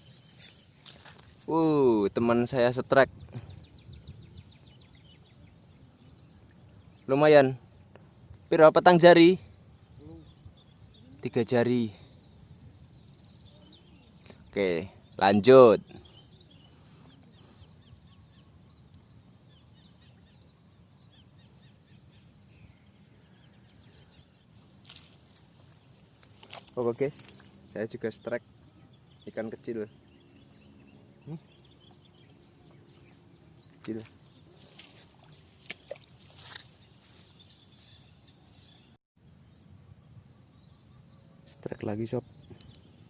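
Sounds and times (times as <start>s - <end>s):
faint outdoor ambience: 0.0s - 43.0s
small birds chirping: 0.0s - 43.0s.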